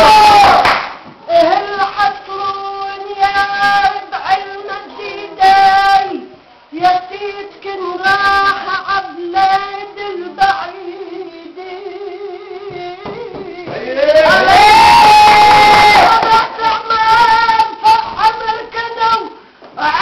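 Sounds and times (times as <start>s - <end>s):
woman singing unaccompanied: 1.2s - 20.0s.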